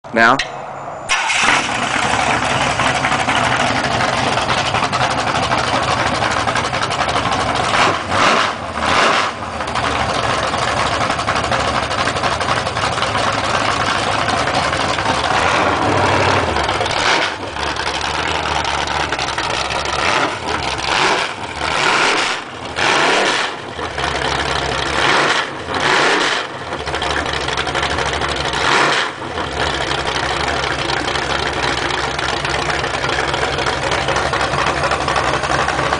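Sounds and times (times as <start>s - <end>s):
engine idling and revving: 0.1s - 35.9s.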